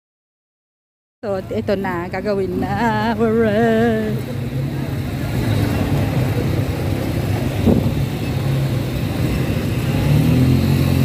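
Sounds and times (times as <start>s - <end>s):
quad bike engines running: 1.3s - 11.0s.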